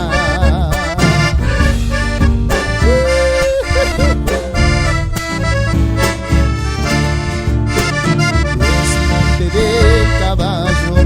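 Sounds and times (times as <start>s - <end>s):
accordion melody: 0.0s - 11.0s
bass and rhythmic accompaniment: 0.0s - 11.0s.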